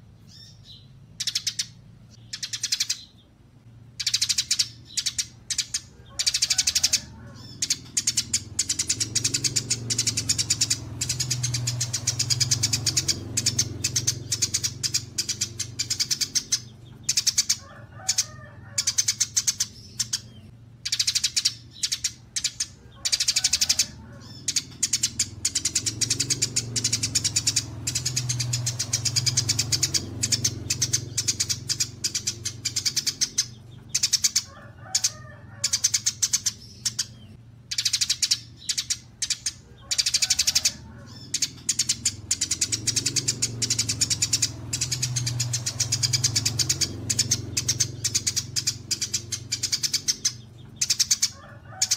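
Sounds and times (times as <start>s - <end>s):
songbirds singing trills: 0.0s - 51.9s.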